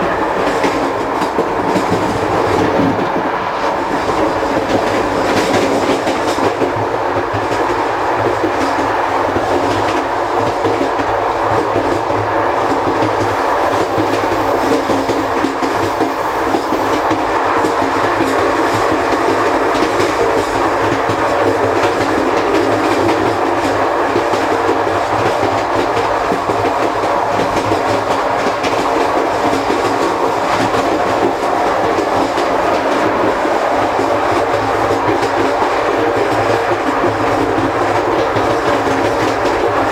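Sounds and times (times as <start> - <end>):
train coaches rumbling and rattling: 0.0 - 39.9.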